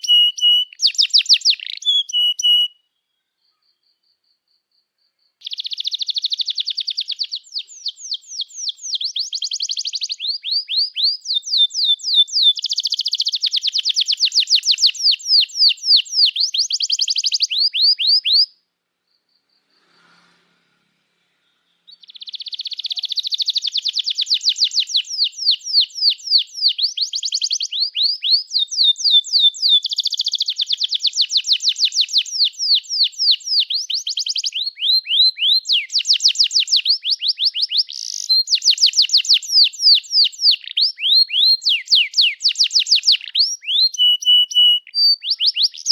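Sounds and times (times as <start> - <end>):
canary singing trills: 0.0 - 4.2, 5.4 - 19.4, 21.6 - 45.9.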